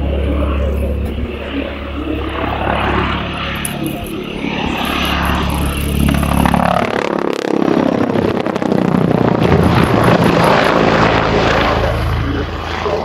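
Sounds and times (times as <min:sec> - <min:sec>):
helicopter passing overhead: 0:00.0 - 0:13.0
rotor blades beating: 0:00.0 - 0:13.0.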